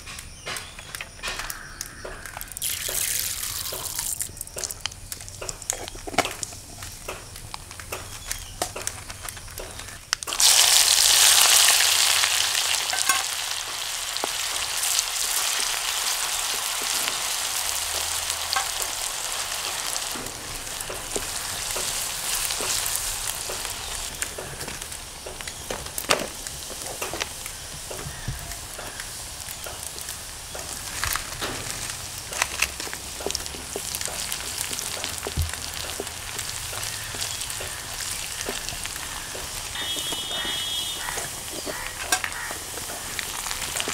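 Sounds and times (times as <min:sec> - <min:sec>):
sharp crackles: 0:00.2 - 0:43.9
shallots sizzling in hot oil: 0:01.5 - 0:43.9.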